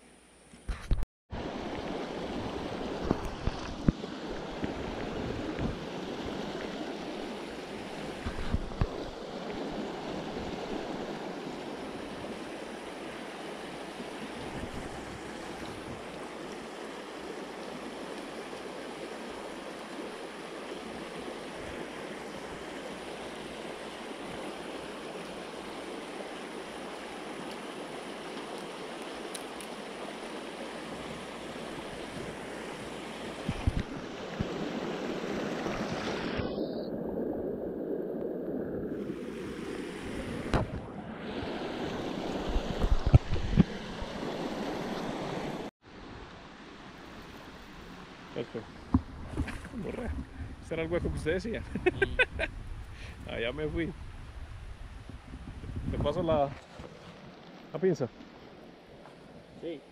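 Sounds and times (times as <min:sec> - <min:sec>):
stream rushing over stones: 0:01.3 - 0:37.5, 0:39.0 - 0:52.5.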